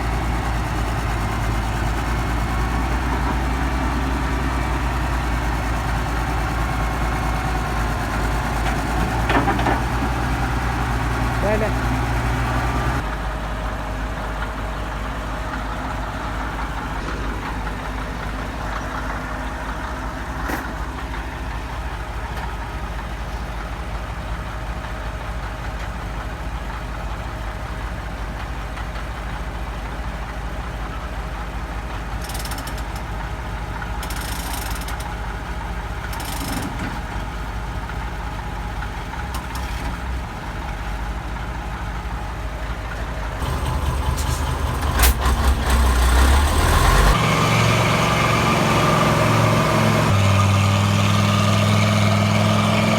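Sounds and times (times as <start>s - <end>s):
truck diesel engine idling: 0.0s - 52.9s.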